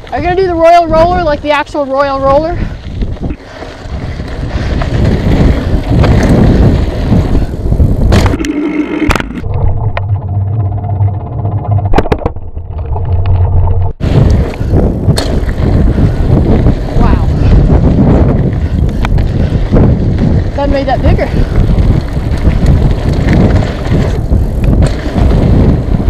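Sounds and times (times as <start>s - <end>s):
bike tyres rattling over ground: 0.0s - 8.4s, 9.2s - 26.0s
wind rushing over microphone: 0.0s - 26.0s.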